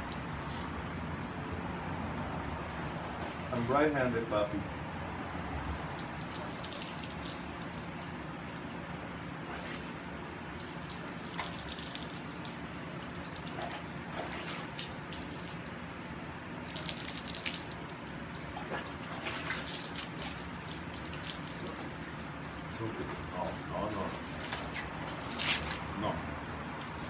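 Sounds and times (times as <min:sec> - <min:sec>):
splashes and drips: 0:00.0 - 0:27.0
water running: 0:05.2 - 0:27.0.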